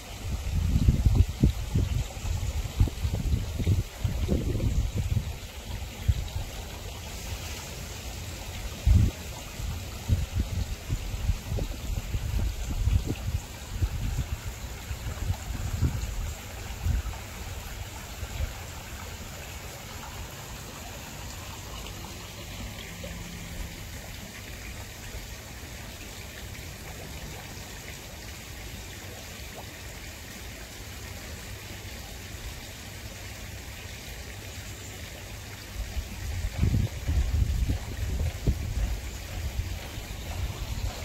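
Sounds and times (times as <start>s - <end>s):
pond water trickling: 0.0s - 41.0s.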